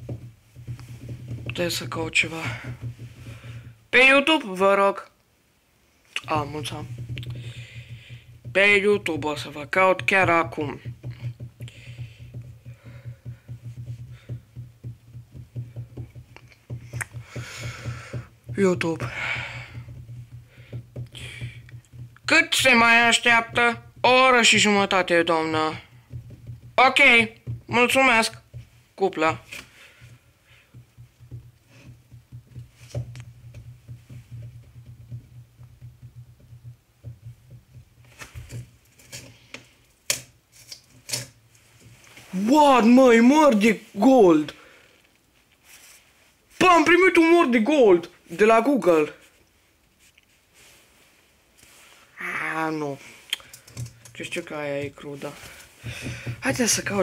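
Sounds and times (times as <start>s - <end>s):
handling noise on microphone: 0.0s - 4.0s, 6.1s - 44.5s, 48.9s - 57.0s.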